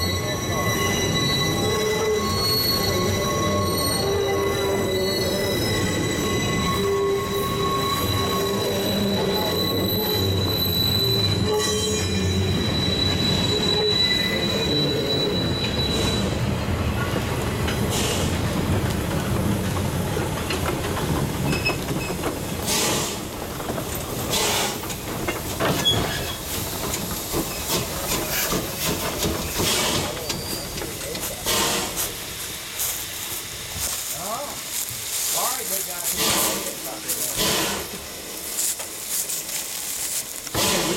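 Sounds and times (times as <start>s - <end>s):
train wheel flanges squealing: 0.0s - 17.1s, 19.2s - 32.4s, 33.0s - 40.9s
steam locomotive clanking: 0.0s - 40.9s.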